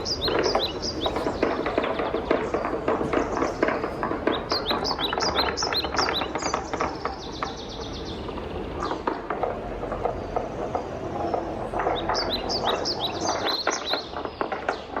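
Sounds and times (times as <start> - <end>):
wooden balls rolling and clattering: 0.0 - 15.0.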